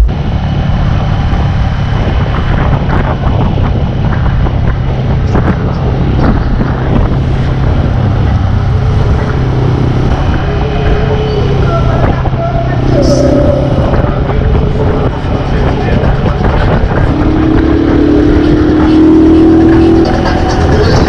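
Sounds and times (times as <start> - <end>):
motorcycle engine running: 0.0 - 21.0
wind buffeting microphone: 0.1 - 21.0.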